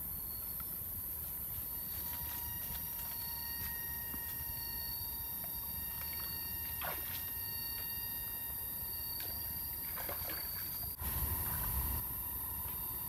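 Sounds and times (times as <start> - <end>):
steady high-pitched hum: 0.0 - 13.0.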